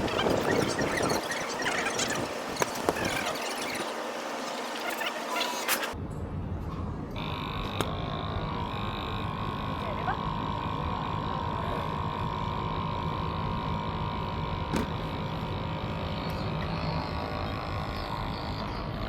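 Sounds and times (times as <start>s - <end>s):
machine whine: 0.0s - 6.0s, 7.0s - 19.0s
mechanical hum: 0.0s - 19.0s.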